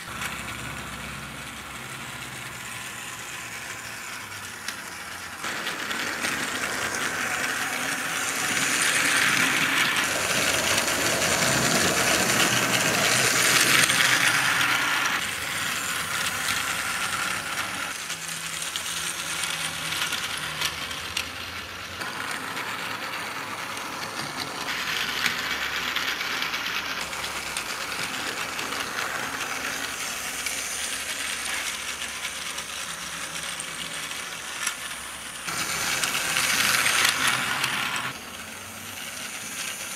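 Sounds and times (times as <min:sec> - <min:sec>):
toy train motor whirring and rattling: 0:00.0 - 0:39.9.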